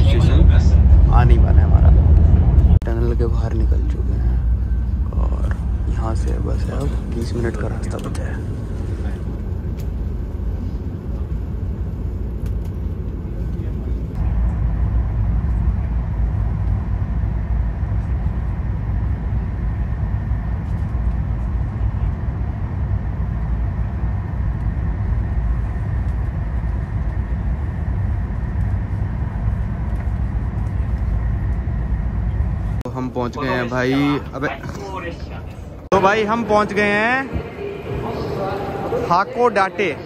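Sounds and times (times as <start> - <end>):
train cabin rumble: 0.0 - 40.0.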